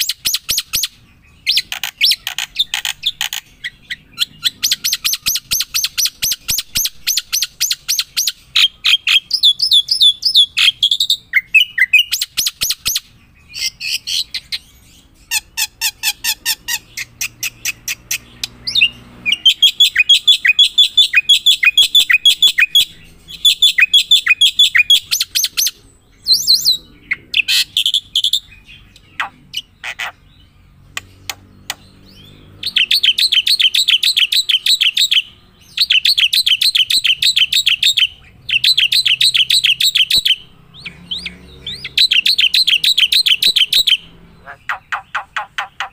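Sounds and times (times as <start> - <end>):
bird chirping and trilling: 0.0 - 45.9.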